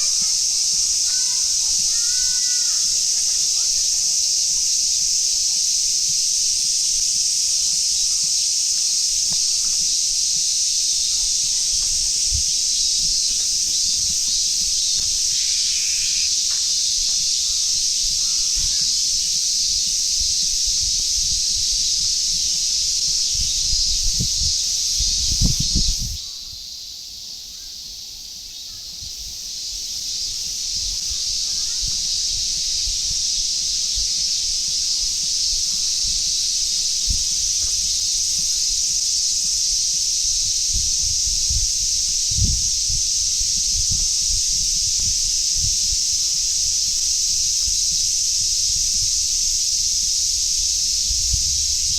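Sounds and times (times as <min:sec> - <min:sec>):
cicadas chorus: 0:00.0 - 0:51.9.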